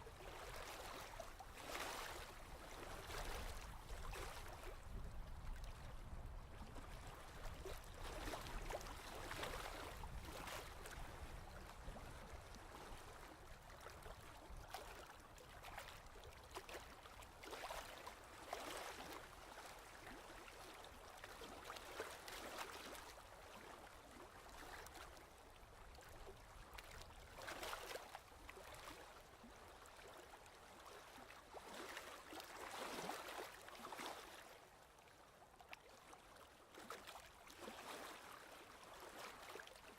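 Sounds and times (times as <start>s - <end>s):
faint ocean waves: 0.0s - 39.9s.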